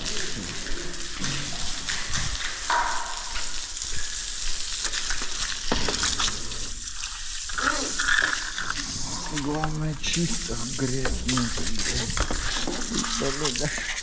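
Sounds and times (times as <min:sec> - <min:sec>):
water spraying and splashing: 0:00.0 - 0:14.0.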